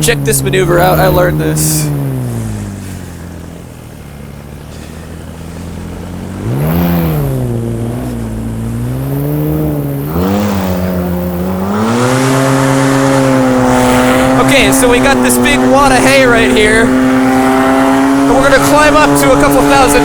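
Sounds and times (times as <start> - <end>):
paramotor engine: 0.0 - 20.0.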